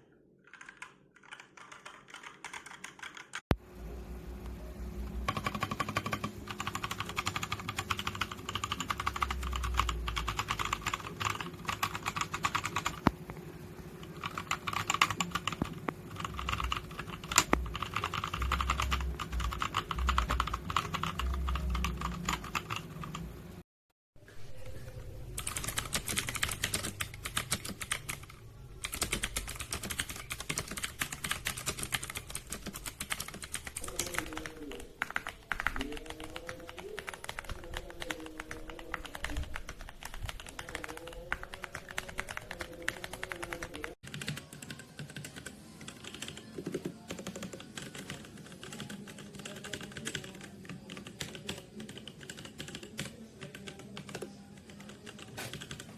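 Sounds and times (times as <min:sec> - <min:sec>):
mechanical keyboard typing: 0:00.4 - 0:03.6, 0:05.2 - 0:23.5, 0:25.4 - 0:55.9.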